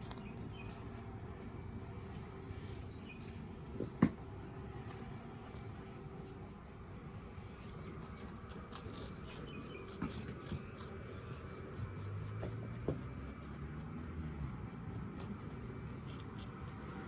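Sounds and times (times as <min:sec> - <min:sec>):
rabbit chewing food: 0:00.0 - 0:17.0.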